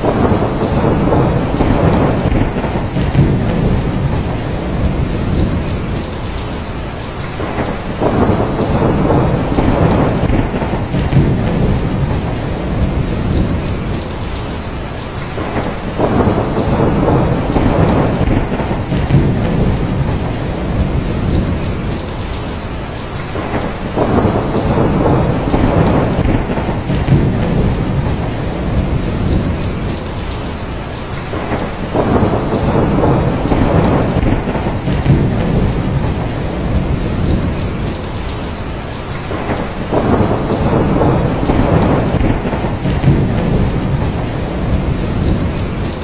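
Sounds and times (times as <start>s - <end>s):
heavy rain: 0.0s - 46.0s
low rolling thunder: 0.0s - 46.0s.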